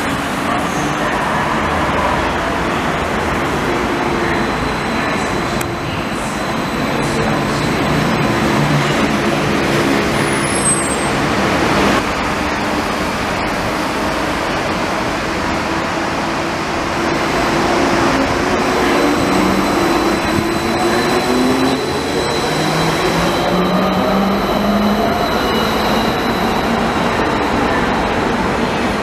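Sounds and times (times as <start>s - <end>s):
light rail train running: 0.0s - 29.0s.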